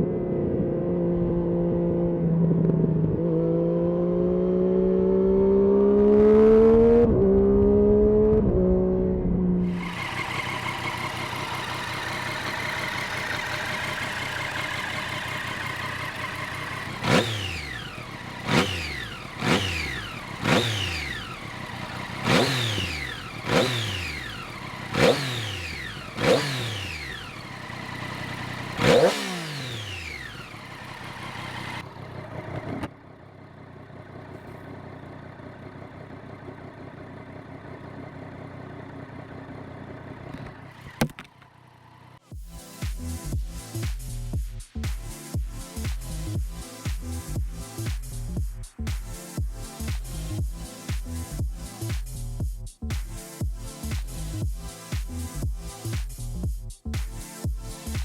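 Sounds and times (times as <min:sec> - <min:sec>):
motorcycle engine revving: 0:00.0 - 0:42.4, 0:45.5 - 0:58.0.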